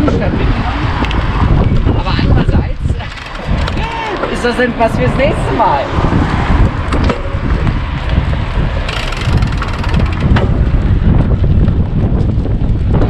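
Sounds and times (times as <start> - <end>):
wind on microphone rumble: 0.0 - 13.0.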